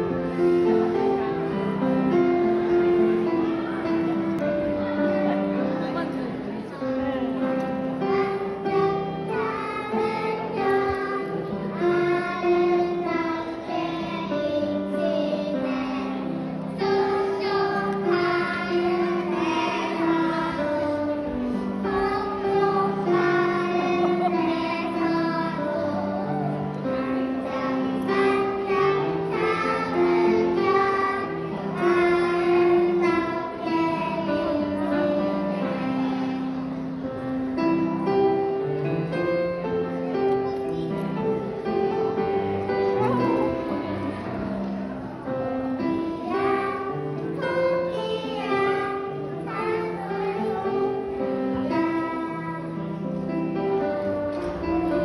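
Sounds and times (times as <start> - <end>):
children singing together: 0.0 - 39.6, 40.2 - 55.0.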